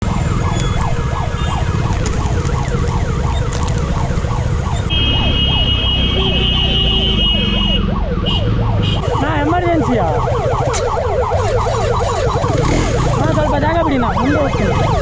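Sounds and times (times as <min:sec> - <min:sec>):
ambulance siren wailing: 0:00.0 - 0:15.0.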